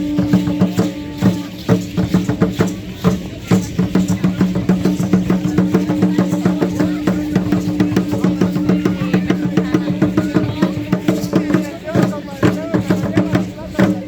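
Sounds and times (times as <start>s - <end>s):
fast drumming: 0.0s - 14.0s.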